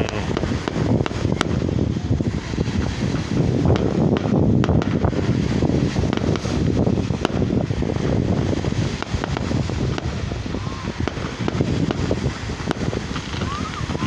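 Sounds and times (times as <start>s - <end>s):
distant fireworks cracks: 0.0s - 14.0s
wind rumbling on microphone: 0.0s - 14.0s.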